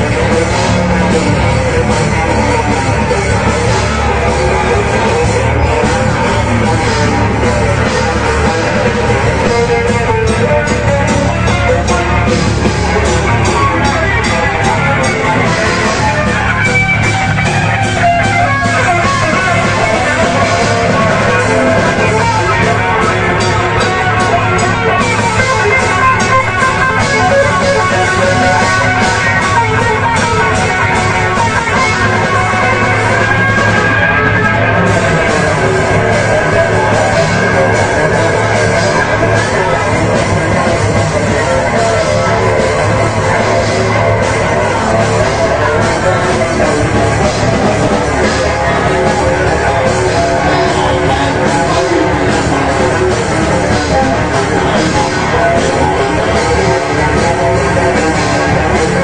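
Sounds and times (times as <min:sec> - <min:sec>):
heavy metal band playing live: 0:00.0 - 0:59.0.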